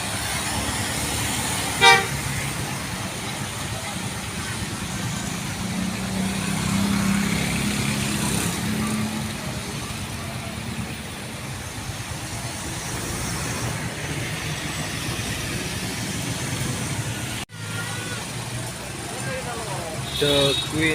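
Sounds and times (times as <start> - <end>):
bus engine droning: 0.0 - 19.9
steady traffic noise: 0.0 - 20.9.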